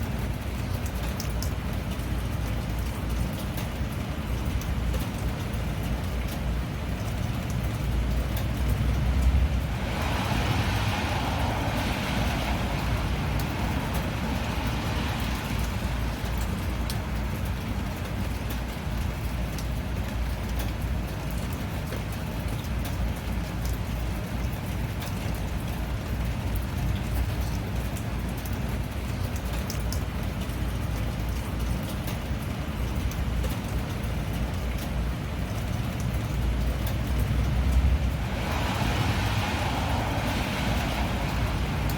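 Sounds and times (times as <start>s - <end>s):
constant low rumble: 0.0s - 41.9s
steady rain falling: 0.0s - 41.9s.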